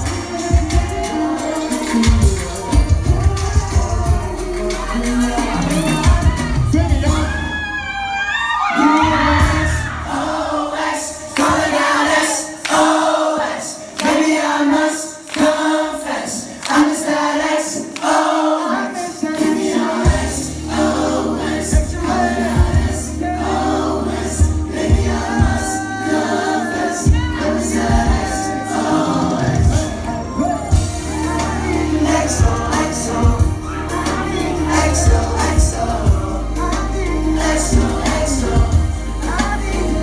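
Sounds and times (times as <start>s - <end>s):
male voices singing: 0.0s - 7.5s, 8.8s - 40.0s
pop band music: 0.0s - 40.0s.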